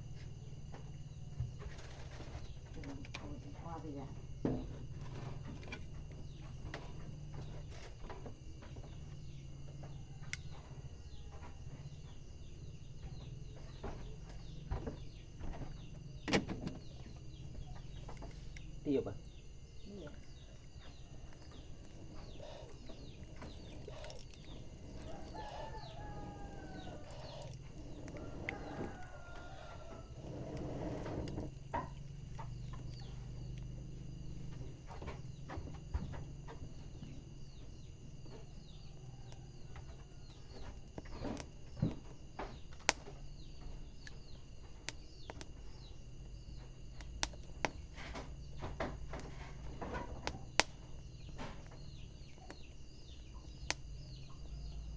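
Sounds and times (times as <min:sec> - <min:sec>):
wood fire crackling and popping: 0:00.0 - 0:54.8.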